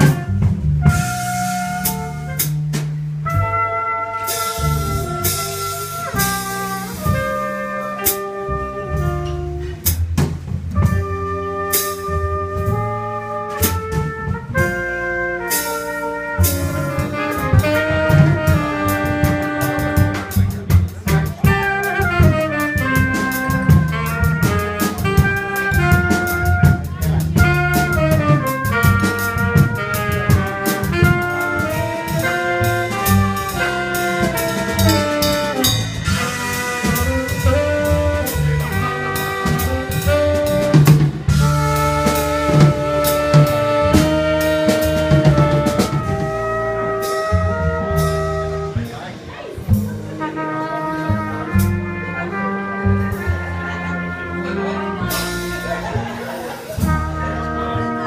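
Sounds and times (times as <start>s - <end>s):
drum kit and cymbals: 0.0s - 58.0s
trumpet melody: 0.0s - 58.0s
upright bass: 0.0s - 58.0s.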